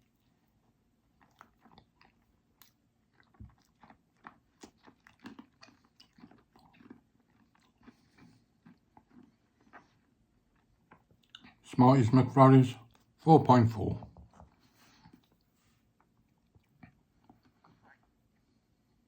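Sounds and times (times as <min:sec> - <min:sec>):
faint chewing crunches: 0:00.0 - 0:11.7, 0:12.8 - 0:13.2, 0:14.2 - 0:19.0.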